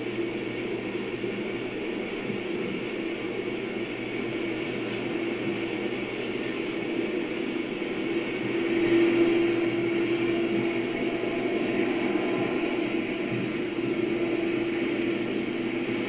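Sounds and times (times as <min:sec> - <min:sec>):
diesel locomotive engine drone: 0:00.0 - 0:16.0
rail and track noise: 0:00.0 - 0:16.0.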